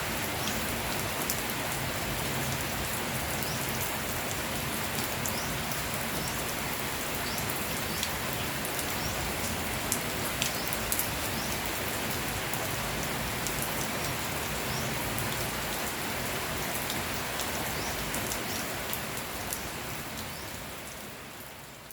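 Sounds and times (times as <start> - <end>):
raindrops ticking close by: 0.0 - 21.9
steady rain falling: 0.0 - 21.9.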